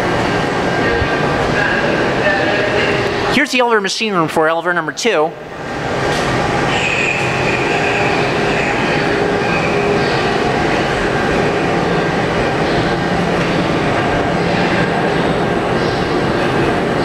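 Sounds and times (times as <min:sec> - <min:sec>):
elevator machinery drone: 0:00.0 - 0:17.0
high whine: 0:00.0 - 0:17.0.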